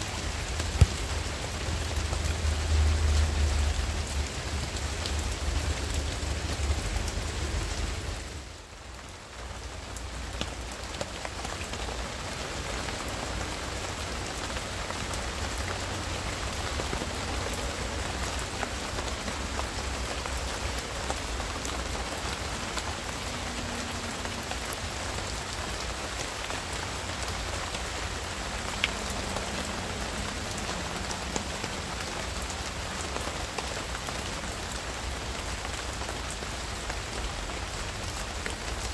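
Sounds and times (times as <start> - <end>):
rain falling on foliage: 0.0 - 38.9.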